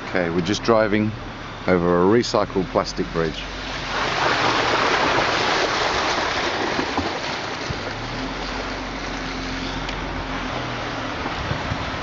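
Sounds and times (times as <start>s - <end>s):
car tyre noise: 0.0s - 12.0s
low engine hum: 0.0s - 12.0s.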